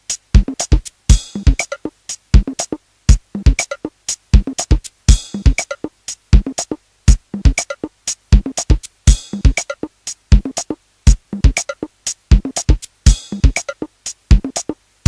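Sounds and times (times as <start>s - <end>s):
electronic music with drum-machine beat: 0.0s - 14.9s.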